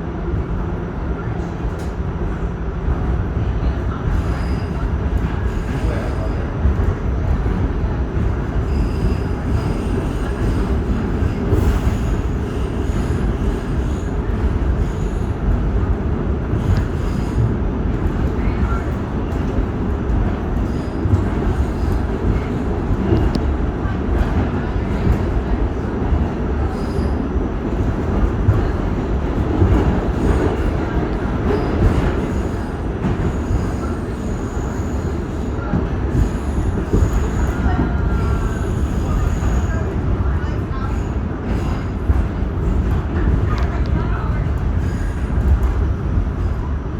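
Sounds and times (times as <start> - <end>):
subway train rumbling in tunnel: 0.0 - 46.9.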